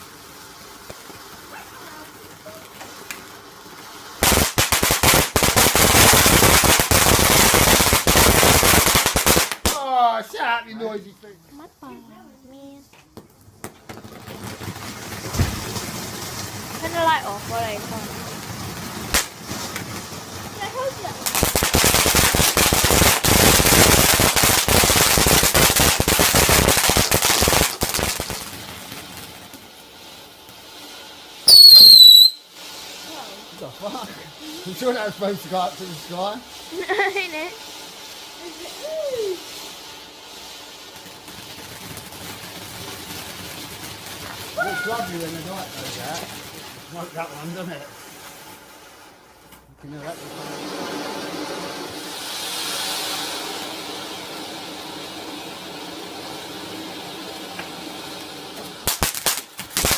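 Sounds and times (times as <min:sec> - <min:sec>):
firework cracks and bangs: 0:00.0 - 0:59.9.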